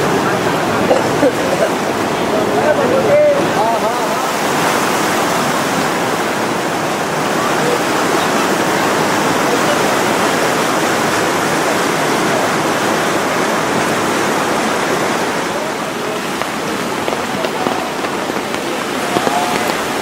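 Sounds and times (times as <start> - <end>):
rushing river water: 0.0 - 20.0.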